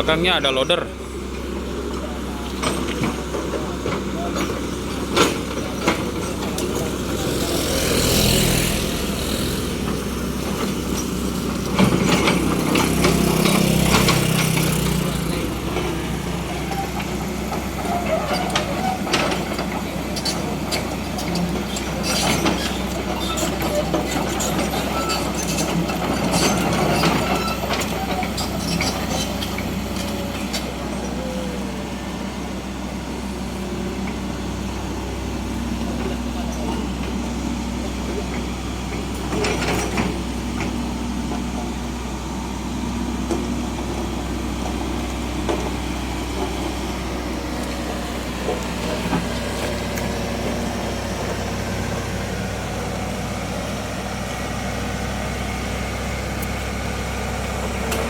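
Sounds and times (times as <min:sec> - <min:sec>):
heavy machinery diesel engines: 0:00.0 - 0:58.0.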